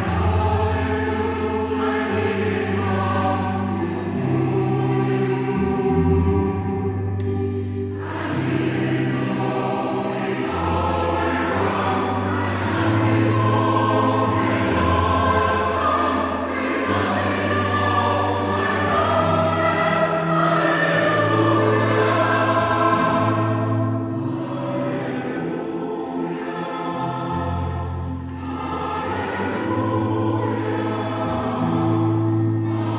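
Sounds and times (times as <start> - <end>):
choir singing held chords: 0.0 - 32.9.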